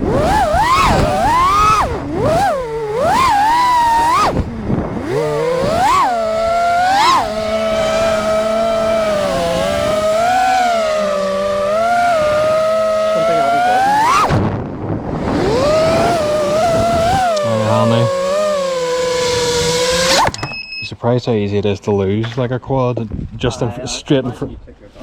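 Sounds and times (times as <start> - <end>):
quadcopter motors whining: 0.0 - 20.8.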